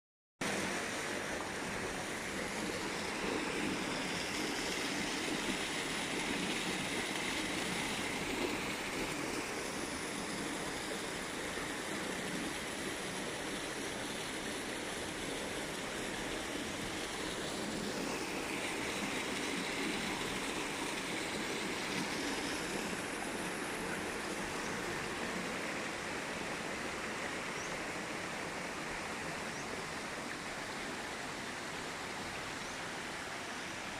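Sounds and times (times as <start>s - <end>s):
river water rushing: 0.4s - 33.9s.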